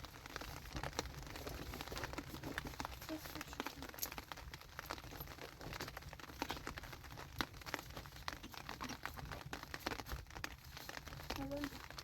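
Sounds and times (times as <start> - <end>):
crackling and clicking ticks: 0.0 - 12.0.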